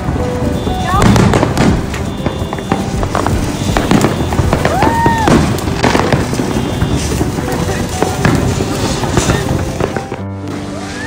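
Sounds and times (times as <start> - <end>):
firework crackling hiss with pops: 0.0 - 11.0.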